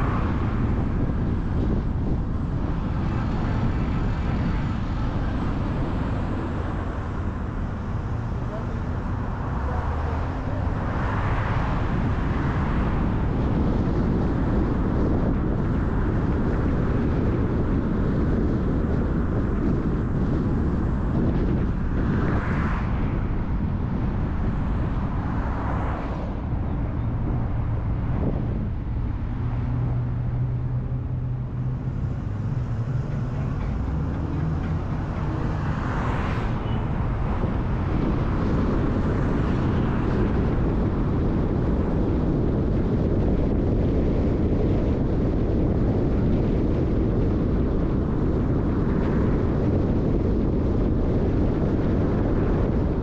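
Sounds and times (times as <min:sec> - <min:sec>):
vehicles swishing past: 0:00.0 - 0:18.1, 0:19.0 - 0:44.8
low engine hum: 0:00.0 - 0:53.0
tyres and wind road noise: 0:00.0 - 0:53.0.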